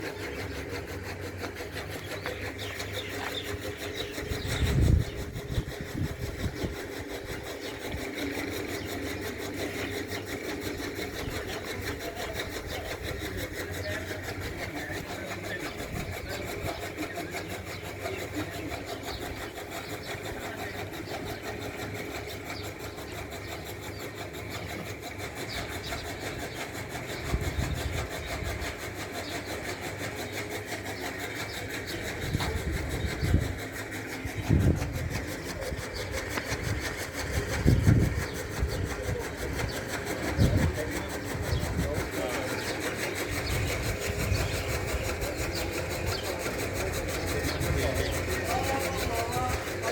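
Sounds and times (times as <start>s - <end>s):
steady mechanical hum: 0.0s - 49.9s.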